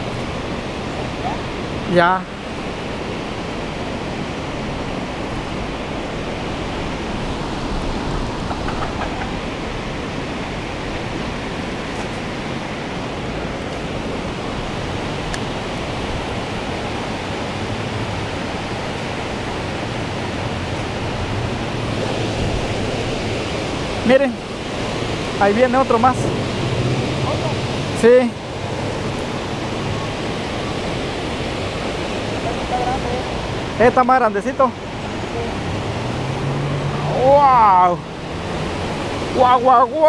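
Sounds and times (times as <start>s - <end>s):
flowing river water: 0.0s - 40.0s.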